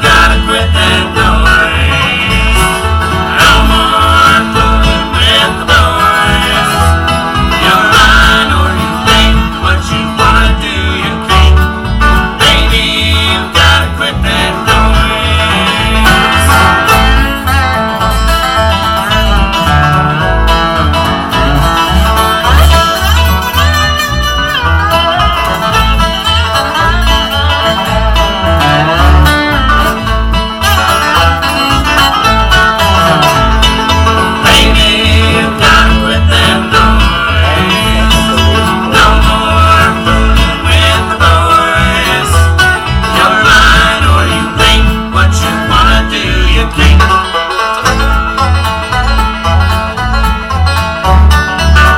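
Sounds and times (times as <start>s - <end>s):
banjo and guitar picking: 0.0s - 51.9s
bass beat: 0.0s - 51.9s
fiddle: 0.0s - 51.9s.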